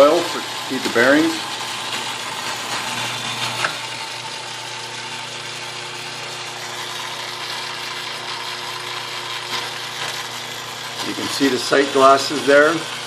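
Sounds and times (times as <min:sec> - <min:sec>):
metal lathe humming and whirring: 0:00.0 - 0:13.0.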